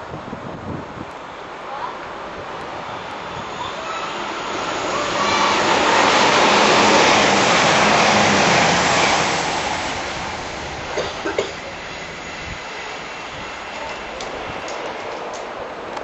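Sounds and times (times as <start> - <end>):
train passing at speed: 1.2 - 16.0.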